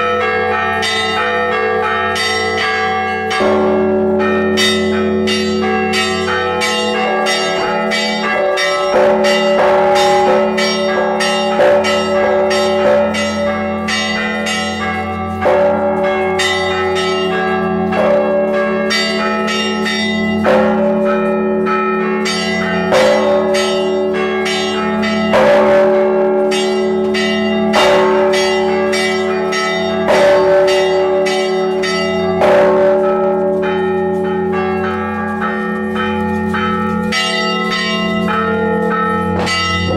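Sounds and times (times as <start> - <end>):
heavy bell strikes: 0.0 - 39.9
hum of large bells: 0.0 - 39.9
small bells struck rapidly: 0.0 - 39.9.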